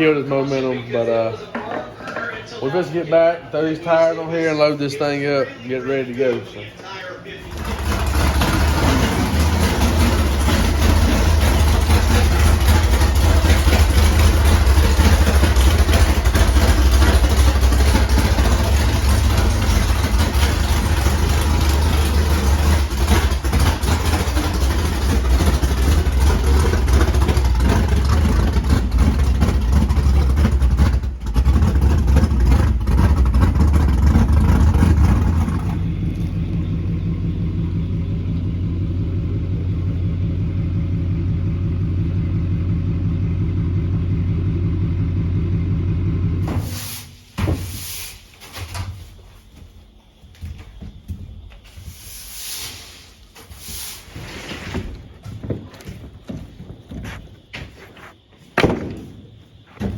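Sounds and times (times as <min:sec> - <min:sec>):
engine rumbling: 0:00.0 - 0:59.9.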